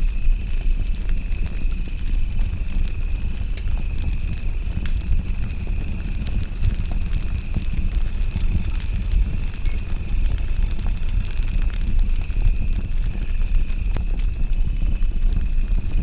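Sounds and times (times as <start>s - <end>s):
campfire crackling and popping: 0.0s - 16.0s
crickets chirping: 0.0s - 16.0s
steady insect tone: 0.0s - 16.0s.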